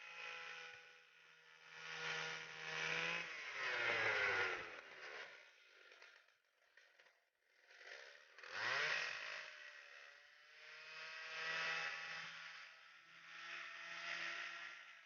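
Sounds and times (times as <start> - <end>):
chainsaw engine revving: 1.6 - 14.9.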